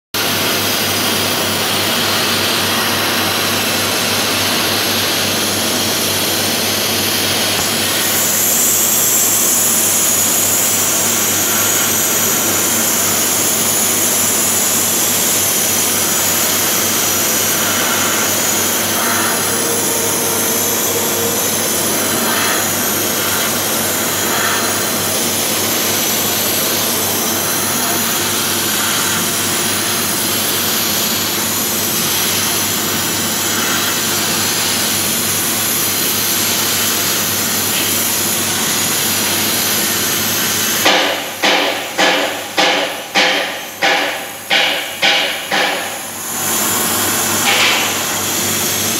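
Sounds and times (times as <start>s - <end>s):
sandblasting gun hissing: 1.9s - 48.9s.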